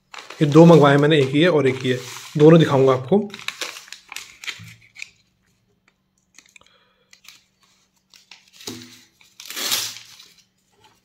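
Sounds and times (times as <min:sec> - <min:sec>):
paper rustling: 0:00.0 - 0:05.3, 0:07.2 - 0:11.0
paper crinkling: 0:00.0 - 0:05.6, 0:06.3 - 0:11.0.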